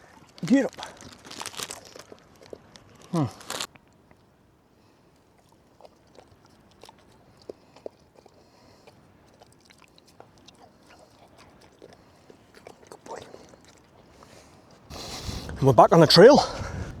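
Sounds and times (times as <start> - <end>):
dog chewing and crunching: 0.0 - 4.3, 5.1 - 15.2.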